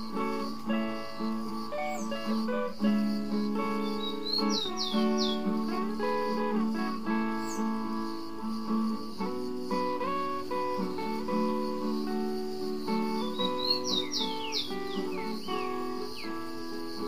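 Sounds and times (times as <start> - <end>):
bird chirps: 0.0 - 17.0
fingerstyle acoustic guitar: 0.0 - 17.0.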